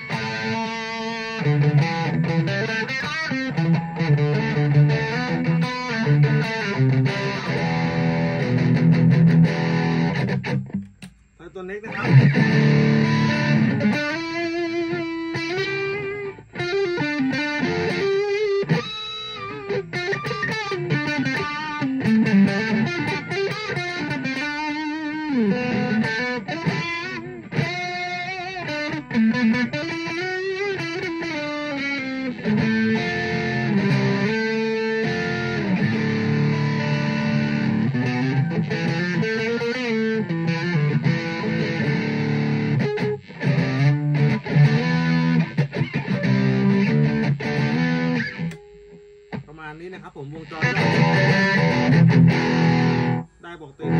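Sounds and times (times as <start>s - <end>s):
distorted electric guitar lead: 0.0s - 53.9s.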